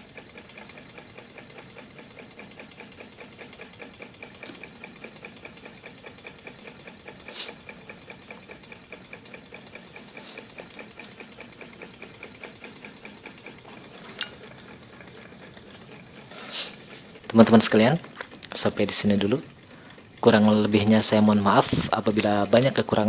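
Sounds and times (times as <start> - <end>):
small engine ticking rhythmically: 0.0 - 23.0.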